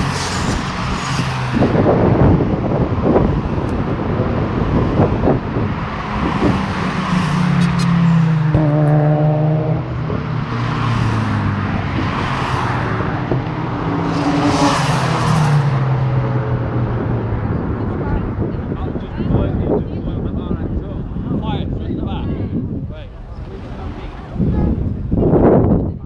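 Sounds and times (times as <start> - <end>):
cars driving past: 0.0 - 21.7.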